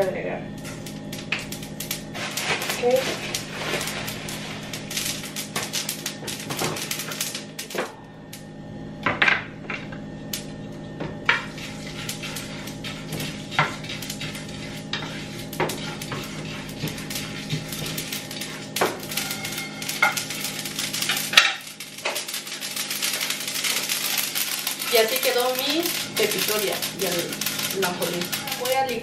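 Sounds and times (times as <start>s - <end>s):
seeds rattling in frying pan: 0.6s - 7.8s, 11.3s - 29.0s.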